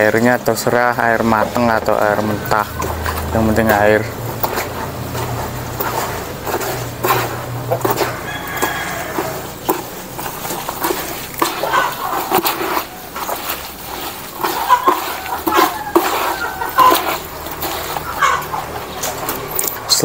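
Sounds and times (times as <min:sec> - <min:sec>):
chickens clucking: 0:00.0 - 0:20.0
hand mixing wet feed in bucket: 0:00.0 - 0:20.0.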